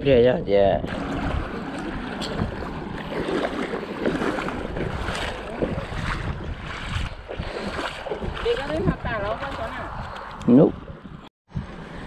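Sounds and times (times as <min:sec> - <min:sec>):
wind: 0:00.0 - 0:12.0
wind buffeting microphone: 0:00.0 - 0:12.0
water lapping against boat: 0:00.8 - 0:11.2.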